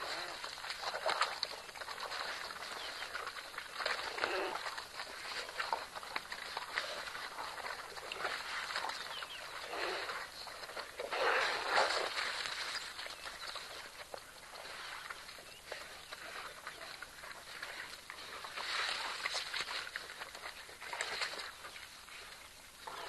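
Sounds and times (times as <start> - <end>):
wild dogs tearing and chewing: 0.0 - 23.0.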